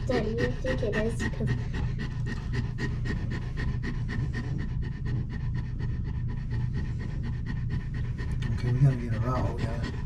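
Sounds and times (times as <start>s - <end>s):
dog panting heavily: 0.0s - 10.0s.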